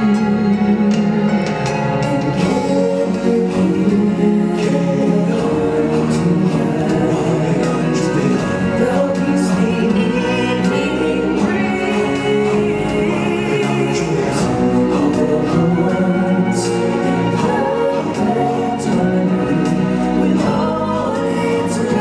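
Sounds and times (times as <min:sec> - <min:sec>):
choir singing with music: 0:00.0 - 0:22.0.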